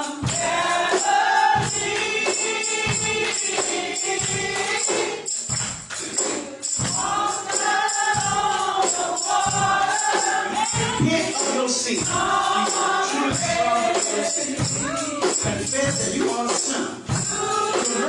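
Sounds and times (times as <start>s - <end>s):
gospel choir singing: 0.0s - 18.0s
tambourine shaking: 0.0s - 18.0s.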